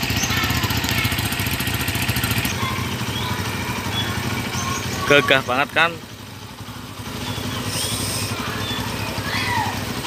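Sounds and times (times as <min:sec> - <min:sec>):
motorcycle engines idling: 0:00.0 - 0:10.0.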